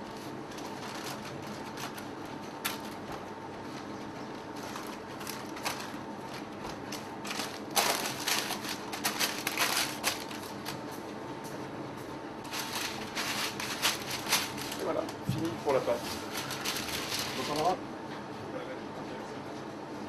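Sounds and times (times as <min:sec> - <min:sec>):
baking paper crinkling: 0:00.0 - 0:11.0, 0:12.4 - 0:17.8.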